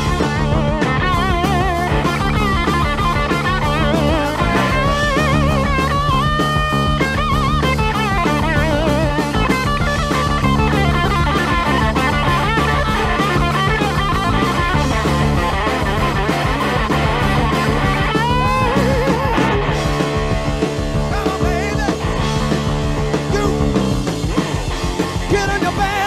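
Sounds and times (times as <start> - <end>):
bass guitar: 0.0 - 26.0
electric guitar lead: 0.0 - 26.0
steady drum beat: 0.0 - 26.0.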